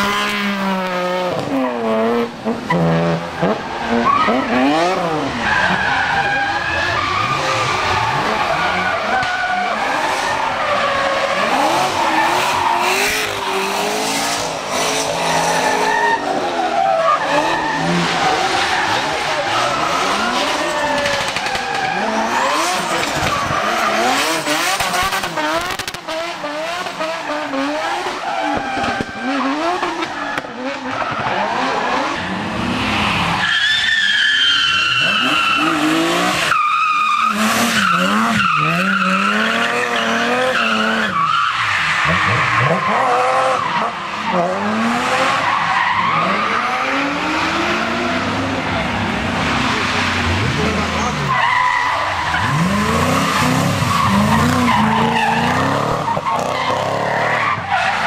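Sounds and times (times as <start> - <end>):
car engines revving hard: 0.0 - 58.0
tyres skidding: 0.0 - 58.0
high tyre squeal: 2.6 - 25.7, 26.5 - 58.0.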